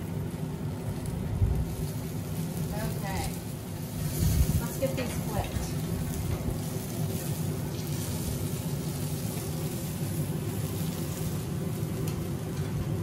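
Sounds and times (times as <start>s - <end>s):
gas grill rumbling: 0.0s - 13.0s.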